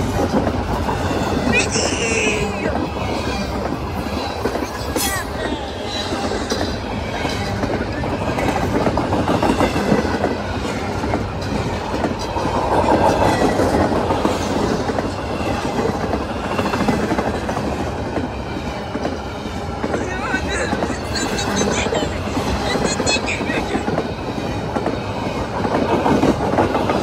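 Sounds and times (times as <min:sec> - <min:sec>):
clickety-clack over rail joints: 0:00.0 - 0:27.0
steel wheels rumbling on rail: 0:00.0 - 0:27.0.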